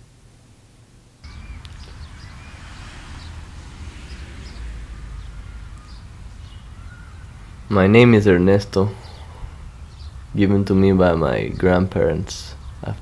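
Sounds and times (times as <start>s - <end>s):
birds chirping: 1.2s - 13.0s
steady low rumble: 1.2s - 13.0s.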